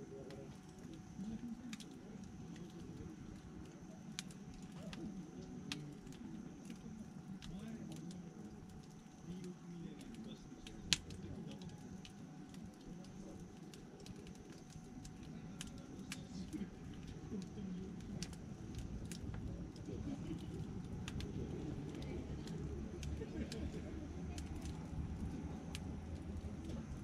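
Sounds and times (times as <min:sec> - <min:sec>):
fire popping and snapping: 0:00.0 - 0:27.0
wood fire crackling: 0:00.0 - 0:27.0.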